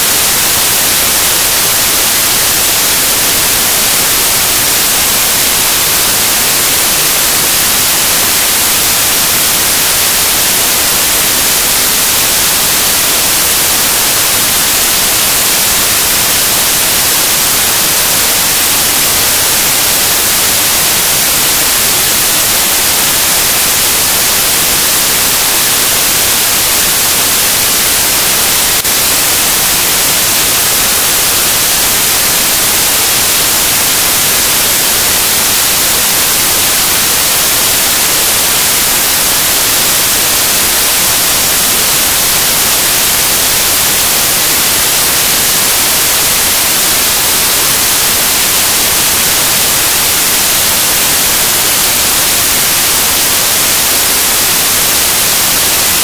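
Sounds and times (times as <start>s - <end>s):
static hiss: 0.0s - 56.0s.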